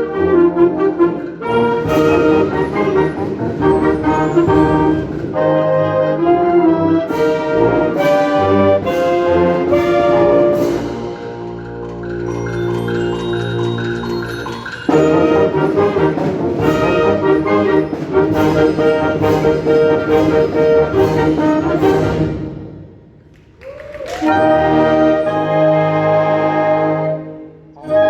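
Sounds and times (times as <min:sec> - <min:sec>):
wind band playing: 0:00.0 - 0:23.3, 0:23.9 - 0:28.0
percussion strokes: 0:01.0 - 0:05.8, 0:07.1 - 0:26.2.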